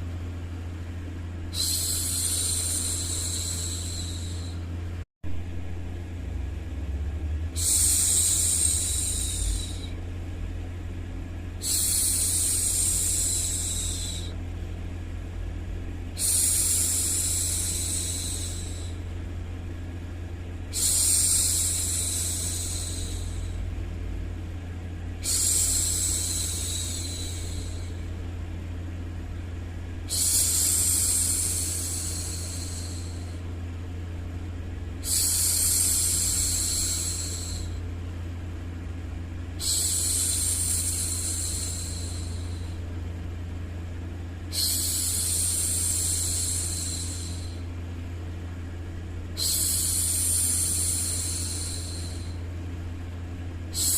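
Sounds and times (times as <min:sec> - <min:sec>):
low white noise: 0:00.0 - 0:53.9.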